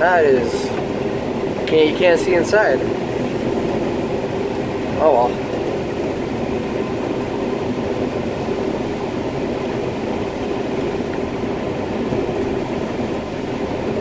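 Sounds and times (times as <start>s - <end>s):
combine harvester drone: 0.0s - 14.0s
steady hum: 0.0s - 14.0s.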